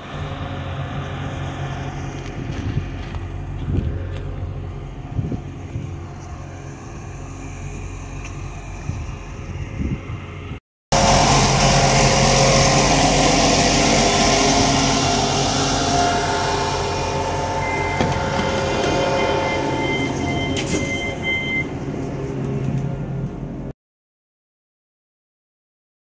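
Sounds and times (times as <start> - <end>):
diesel train engine humming: 0.0 - 23.7
outdoor background noise: 0.0 - 23.7.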